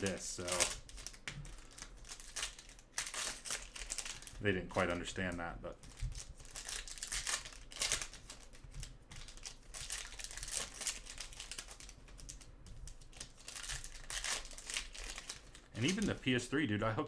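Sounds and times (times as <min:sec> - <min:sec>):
cards flipped through: 0:00.0 - 0:16.3
wrapper crinkling: 0:00.0 - 0:16.5.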